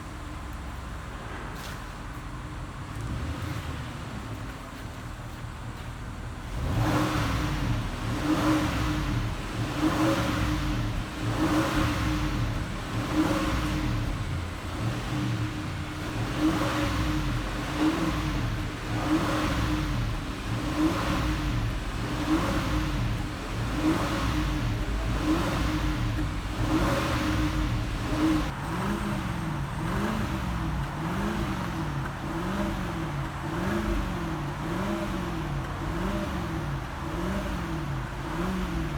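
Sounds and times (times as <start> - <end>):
car engine revving: 2.6 - 4.5, 6.4 - 38.9.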